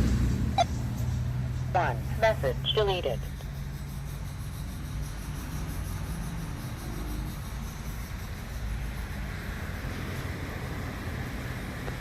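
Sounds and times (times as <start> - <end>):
constant hiss: 0.8 - 12.0.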